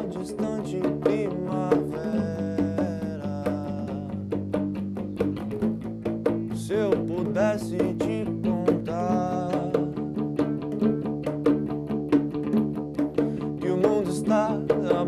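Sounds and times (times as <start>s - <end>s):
bass guitar: 0.0s - 15.0s
congas struck by hand: 0.0s - 15.0s
electric guitar: 0.0s - 15.0s.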